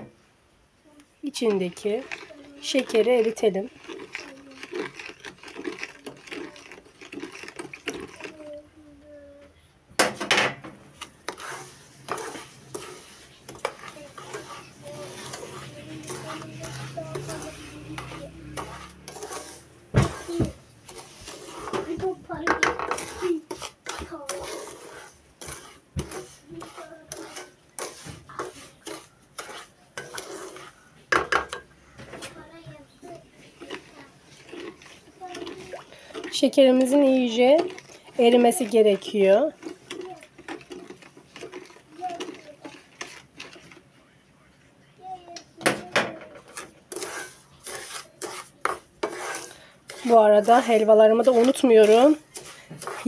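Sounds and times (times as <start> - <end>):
spoon scraping plastic bowl: 1.2 - 8.7, 10.9 - 44.0, 45.6 - 53.0.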